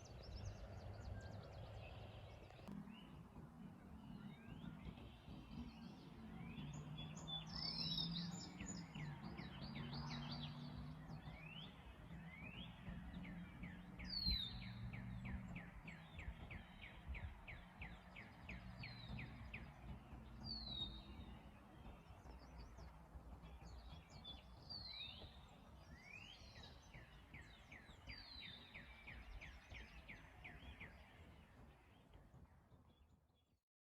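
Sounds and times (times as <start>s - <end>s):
birds chirping and trilling: 0.0s - 32.5s.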